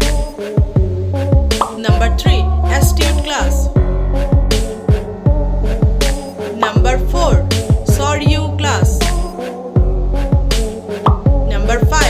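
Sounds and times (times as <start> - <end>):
deep bass beat thumping: 0.0 - 12.0
hip hop music: 0.0 - 12.0.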